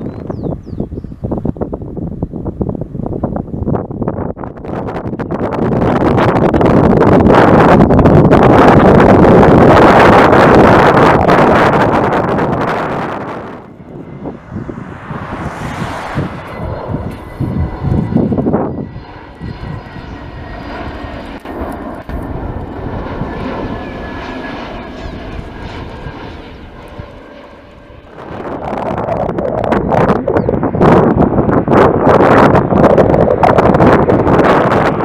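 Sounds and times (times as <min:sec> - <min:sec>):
jet engines humming: 0:00.0 - 0:35.0
wind buffeting microphone: 0:00.0 - 0:35.0.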